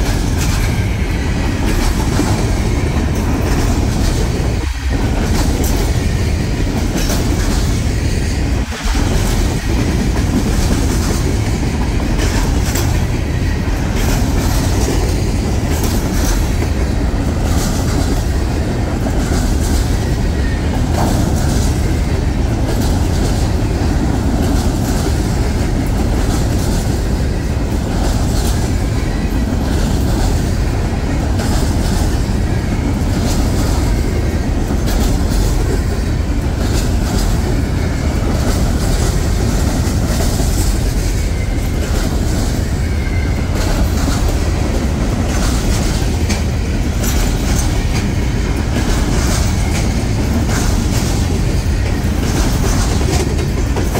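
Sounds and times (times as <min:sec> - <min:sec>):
train wheels rumbling on rail: 0:00.0 - 0:53.9
wheels clicking over rail joints: 0:00.0 - 0:53.9.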